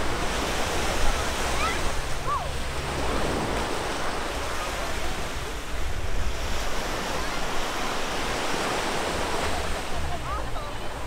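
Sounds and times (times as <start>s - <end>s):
ocean surf washing onto beach: 0.0s - 11.0s.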